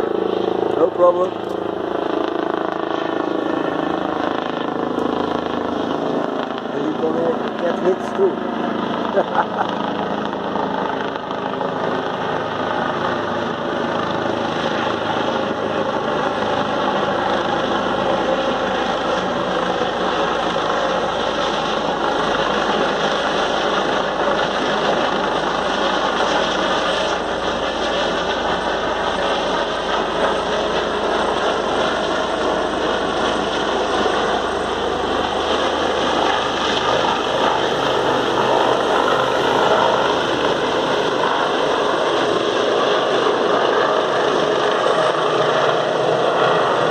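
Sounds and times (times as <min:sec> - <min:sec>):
helicopter flying low: 0:00.0 - 0:46.9.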